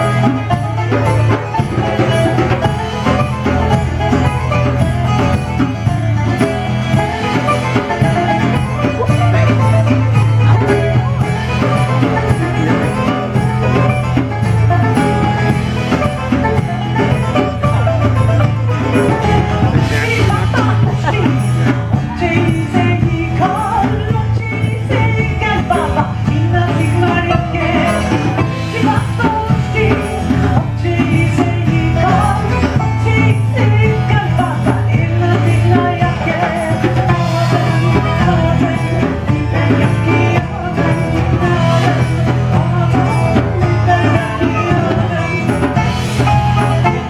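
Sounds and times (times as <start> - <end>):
drums: 0.0 - 47.0
folk band playing: 0.0 - 47.0
guitar: 0.0 - 47.0
plucked string instruments: 0.0 - 47.0.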